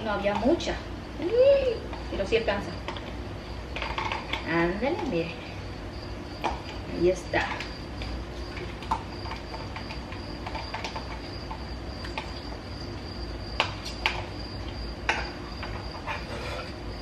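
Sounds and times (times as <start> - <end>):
soup boiling with pops: 1.8 - 5.2, 5.8 - 17.0.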